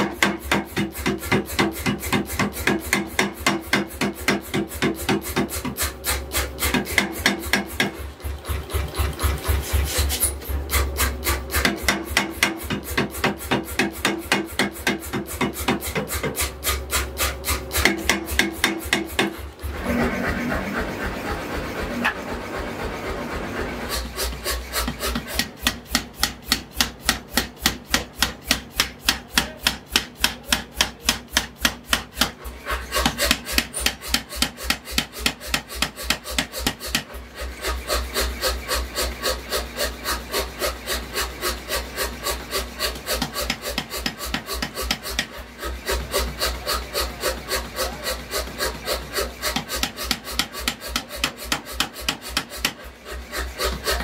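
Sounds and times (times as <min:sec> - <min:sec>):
power hammer striking metal: 0:00.0 - 0:54.0.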